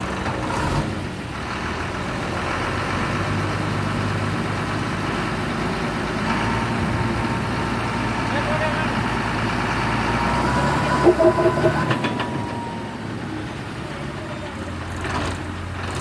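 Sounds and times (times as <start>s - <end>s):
truck engine humming: 0.0s - 16.0s.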